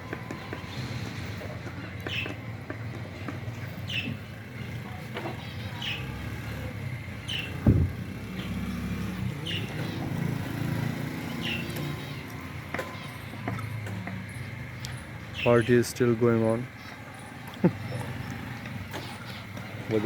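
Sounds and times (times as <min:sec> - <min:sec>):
vehicle engine passing: 0:03.1 - 0:20.0.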